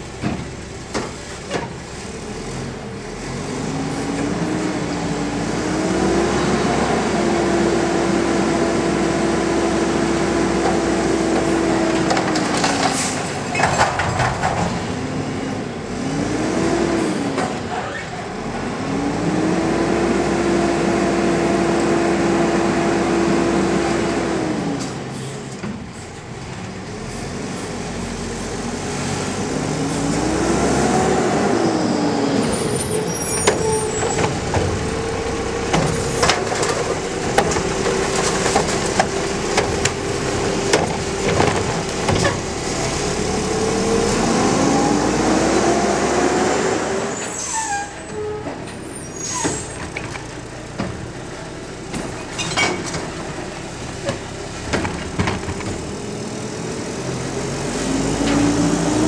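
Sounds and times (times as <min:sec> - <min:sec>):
garbage truck engine revving: 0:00.0 - 0:59.0.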